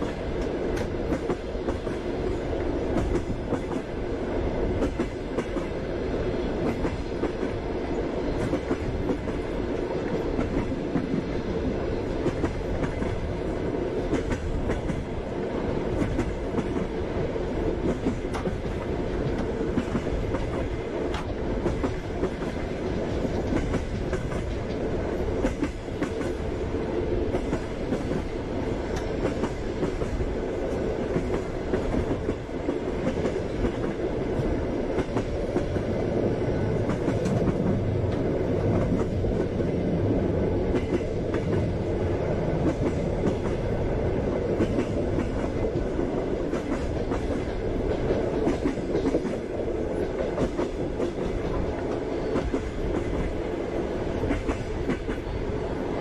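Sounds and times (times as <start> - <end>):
train carriage rumbling: 0.0 - 56.0.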